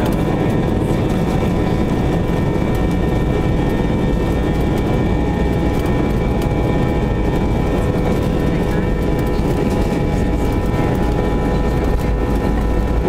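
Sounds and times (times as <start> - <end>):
jet engines roaring: 0.0 - 13.0
wheels rumbling on runway: 0.0 - 13.0.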